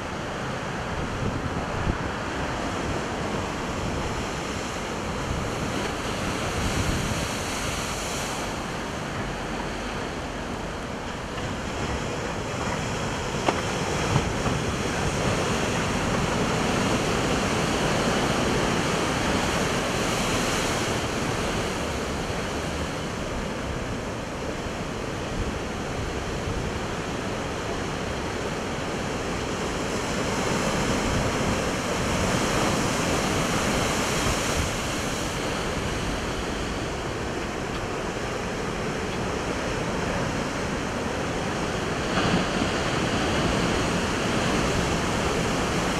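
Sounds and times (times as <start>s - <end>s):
ocean waves crashing on rocks: 0.0s - 45.9s.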